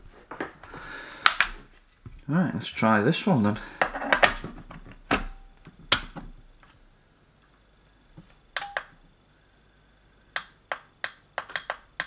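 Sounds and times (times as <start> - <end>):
faint high-pitched whine: 1.6 - 12.0.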